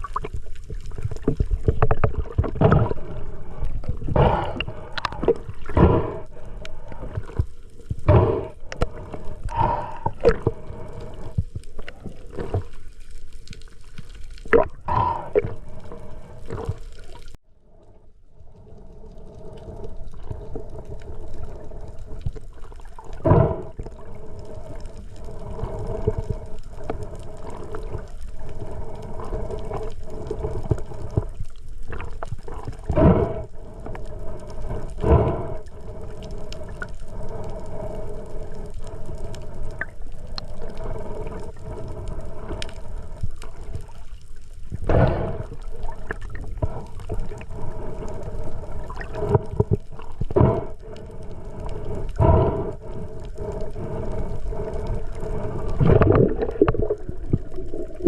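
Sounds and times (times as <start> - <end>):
muffled underwater water sloshing: 0.0 - 58.0.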